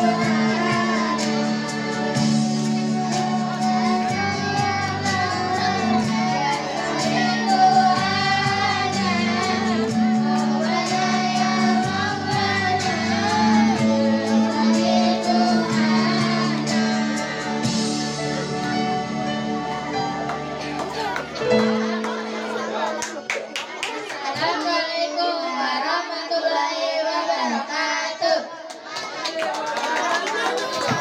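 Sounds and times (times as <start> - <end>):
girls singing together: 0.0 - 18.8, 20.0 - 31.0.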